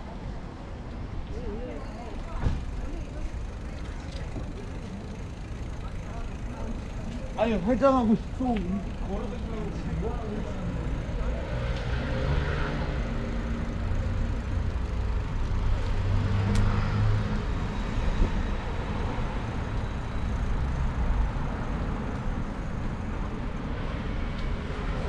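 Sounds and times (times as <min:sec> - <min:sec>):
road traffic rumble: 0:00.0 - 0:25.0
low engine hum: 0:01.7 - 0:24.8.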